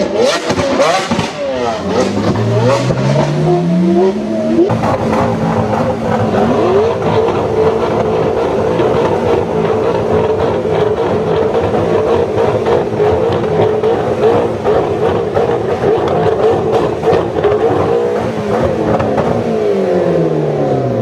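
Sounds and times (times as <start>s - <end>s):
exhaust pops and crackles: 0.0s - 3.4s, 4.6s - 19.6s
race car engine revving: 0.0s - 21.0s.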